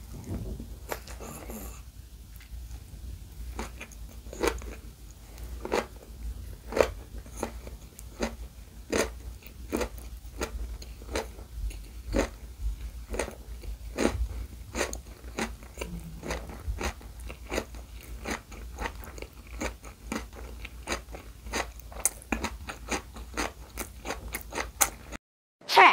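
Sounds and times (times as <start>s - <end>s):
crunchy chewing: 3.5s - 25.2s.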